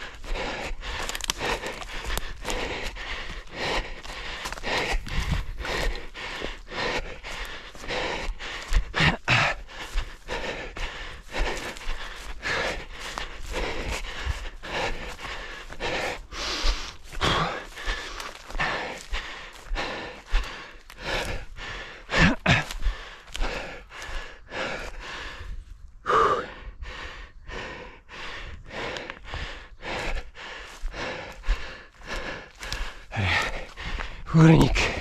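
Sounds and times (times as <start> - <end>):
running footfalls: 0.0 - 25.0, 28.7 - 35.0
person breathing hard: 0.0 - 35.0.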